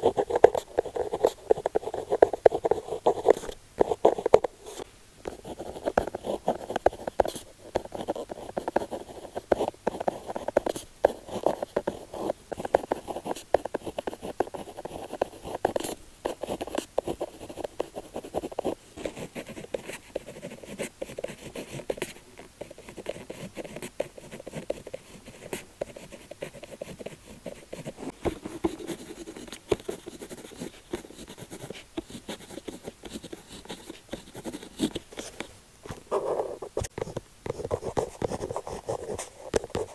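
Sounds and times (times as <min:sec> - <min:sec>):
pen scratching on paper: 0:00.0 - 0:35.5, 0:36.1 - 0:39.9.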